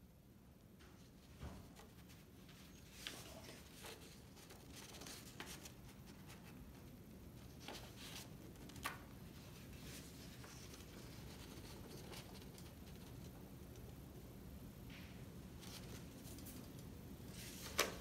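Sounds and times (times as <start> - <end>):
paper crinkles and soft taps: 0.8 - 14.0, 14.9 - 18.0
paper rustling: 1.0 - 13.4, 15.6 - 18.0.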